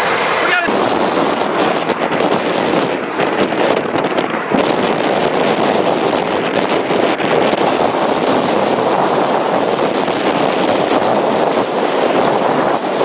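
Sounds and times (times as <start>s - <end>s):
strong wind on microphone: 0.0s - 13.0s.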